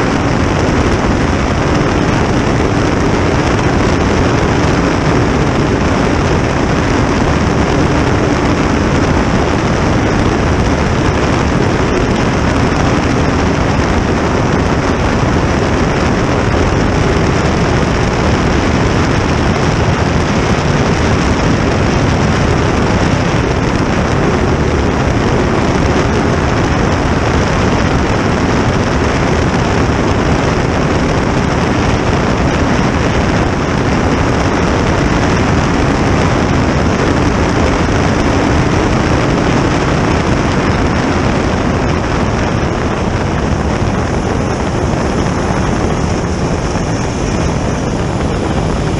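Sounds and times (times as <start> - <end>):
jet boat turbine roaring: 0.0 - 48.9
water rushing: 0.0 - 48.9
wind: 0.0 - 48.9.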